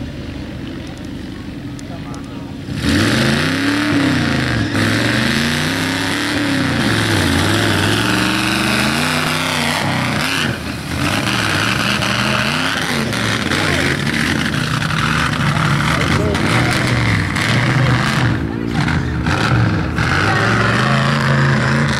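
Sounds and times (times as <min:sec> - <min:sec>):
tires spraying mud: 0:00.0 - 0:21.9
truck engine revving: 0:00.0 - 0:21.9.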